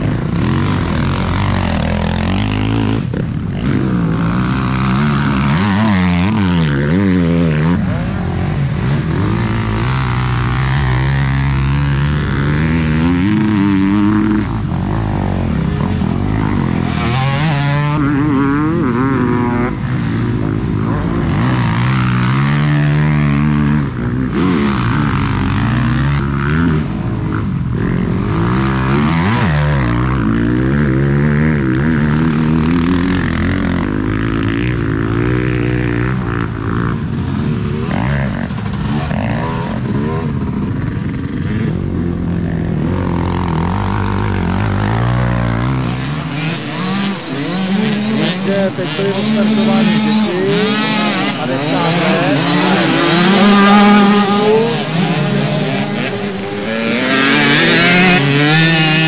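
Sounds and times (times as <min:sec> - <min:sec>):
motocross bikes revving: 0:00.0 - 0:59.0.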